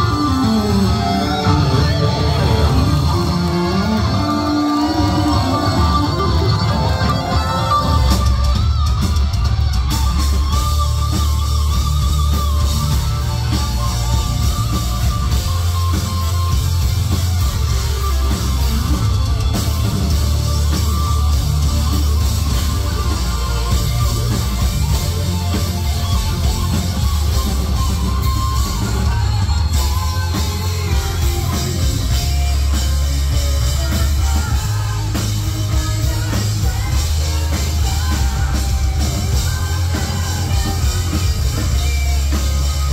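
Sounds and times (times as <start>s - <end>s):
bass guitar: 0.0s - 42.9s
drum kit: 0.0s - 42.9s
electric guitar lead: 0.0s - 42.9s.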